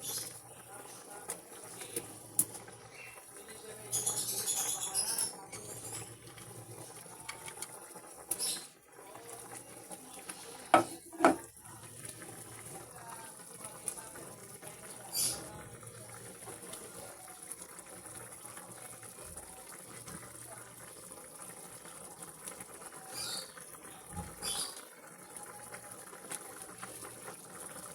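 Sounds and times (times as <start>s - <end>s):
liquid simmering in a pot: 0.0s - 27.9s.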